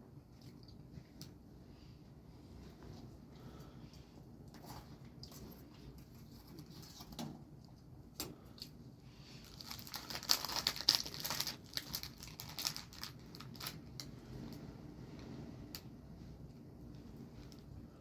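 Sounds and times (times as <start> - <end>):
crinkling handling noise: 2.4 - 18.0.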